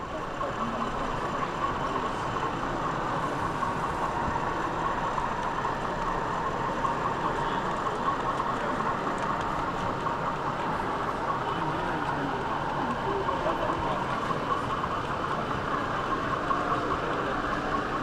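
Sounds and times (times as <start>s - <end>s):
crowd talking indistinctly: 0.0s - 18.0s.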